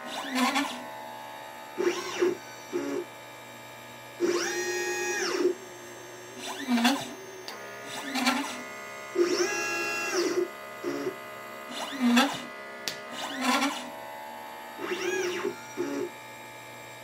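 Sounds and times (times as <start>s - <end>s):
stepper motors whining: 0.0s - 3.1s, 4.2s - 16.4s
steady machine hum: 0.0s - 17.0s.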